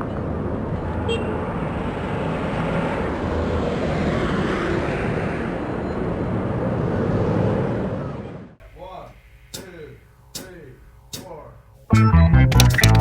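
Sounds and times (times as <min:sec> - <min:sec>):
road traffic: 0:00.0 - 0:11.8.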